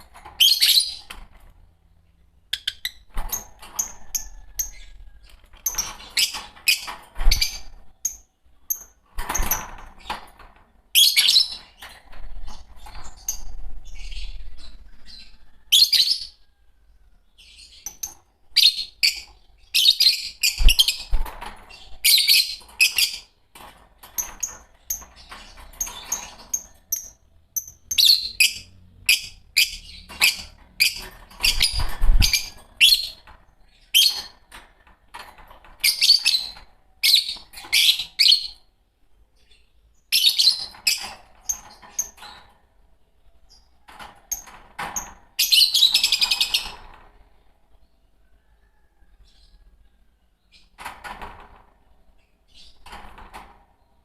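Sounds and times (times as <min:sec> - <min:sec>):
lovebirds chirping: 0:00.0 - 0:34.5, 0:35.8 - 0:50.9, 0:52.0 - 0:53.0.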